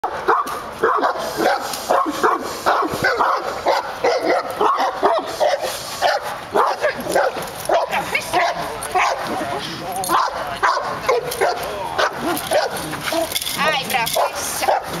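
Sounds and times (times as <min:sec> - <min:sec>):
dog barking rapidly: 0:00.0 - 0:09.2, 0:10.1 - 0:12.9, 0:14.1 - 0:15.0.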